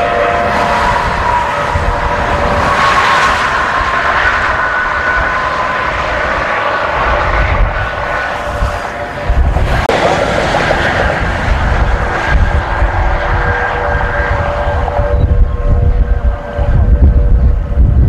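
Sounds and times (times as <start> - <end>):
faint warning siren wailing: 0.0 - 9.3, 10.1 - 18.0
wind buffeting microphone: 0.0 - 18.0.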